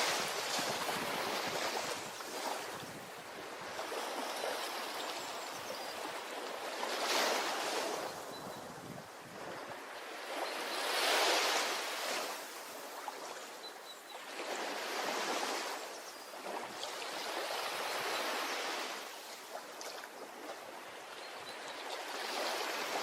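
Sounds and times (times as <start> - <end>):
ocean waves washing onto beach: 0.0 - 23.0.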